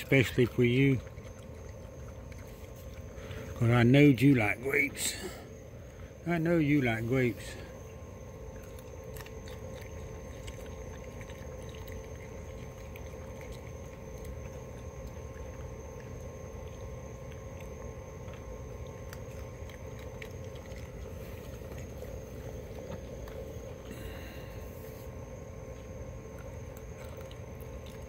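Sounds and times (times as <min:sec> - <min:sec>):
animal chewing clicks and smacks: 0:00.0 - 0:05.4, 0:06.3 - 0:24.1, 0:25.0 - 0:28.0
steady low hum: 0:00.0 - 0:28.0.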